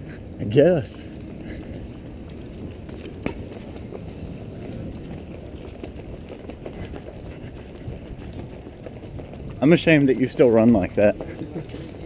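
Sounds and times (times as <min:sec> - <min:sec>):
jostling rumble: 0:00.0 - 0:12.0
running footsteps on pavement: 0:00.0 - 0:12.0.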